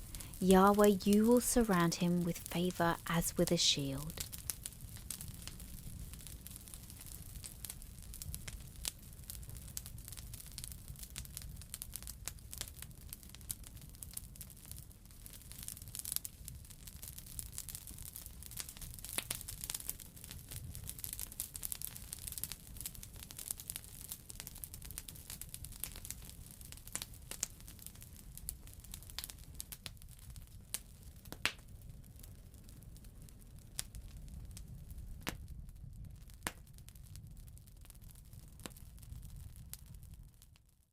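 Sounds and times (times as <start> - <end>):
wood fire crackling: 0.0 - 40.4.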